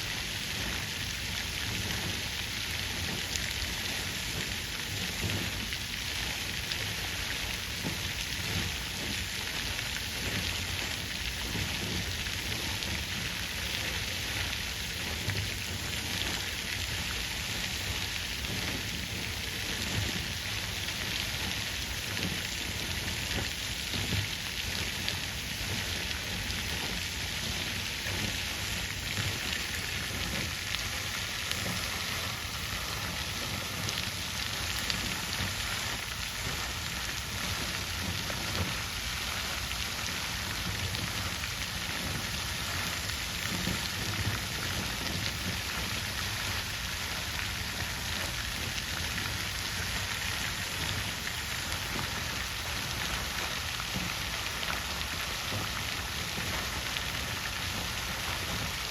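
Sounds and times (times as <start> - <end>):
water fountain splashing: 0.0 - 58.9.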